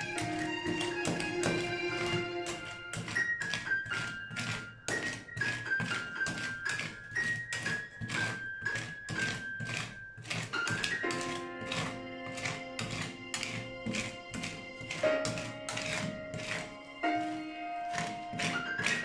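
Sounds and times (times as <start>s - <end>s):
background music with held tones: 0.0s - 19.0s
metal spatulas scraping ice cream: 0.0s - 19.0s.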